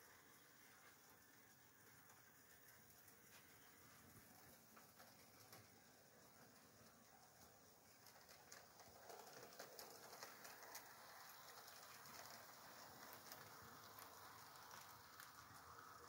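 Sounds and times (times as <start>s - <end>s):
model train wheels rattling on track: 0.0s - 16.0s.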